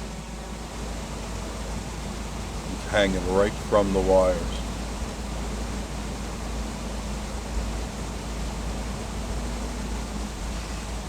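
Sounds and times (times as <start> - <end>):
even hiss: 0.0 - 11.0
faint steady hum: 0.0 - 11.0.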